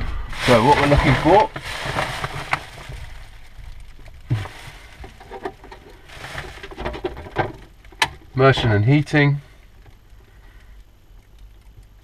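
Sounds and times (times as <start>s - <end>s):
handling clicks and rustling: 0.4s - 12.0s.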